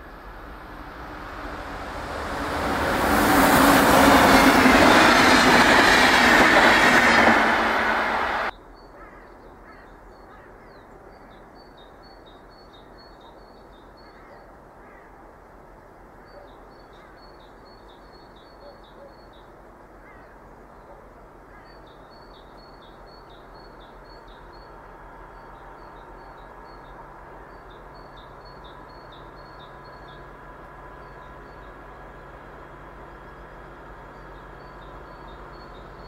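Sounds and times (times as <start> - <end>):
distant train hum: 0.0 - 8.8, 11.0 - 36.0.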